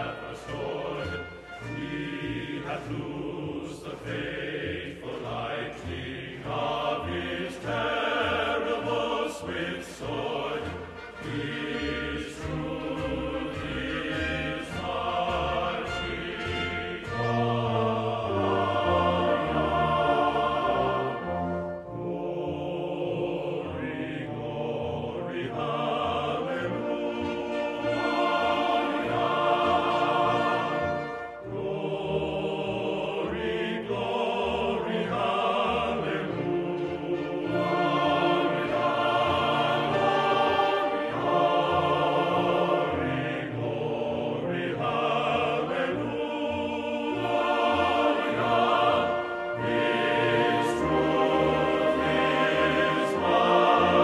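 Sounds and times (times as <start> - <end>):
choir singing: 0.0 - 54.0
orchestra playing: 0.0 - 54.0.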